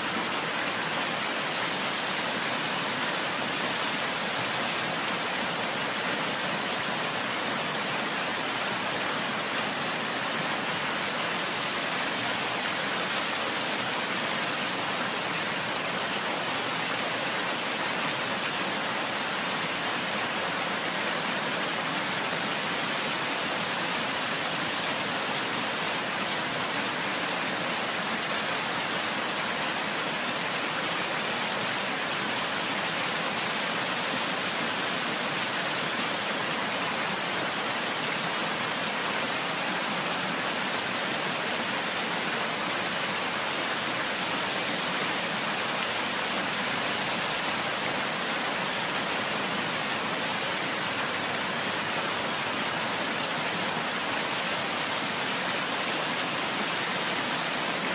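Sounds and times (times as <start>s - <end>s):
rushing water: 0.0s - 57.9s.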